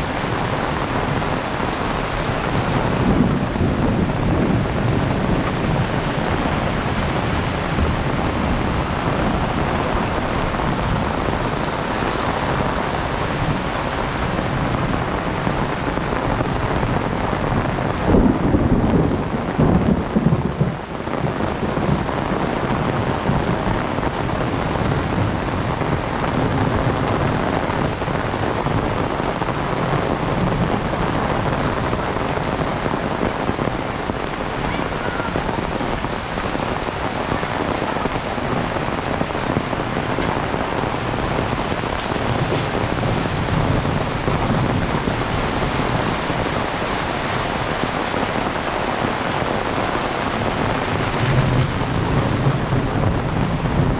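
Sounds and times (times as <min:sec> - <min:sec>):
heavy rain hissing: 0:00.0 - 0:53.9.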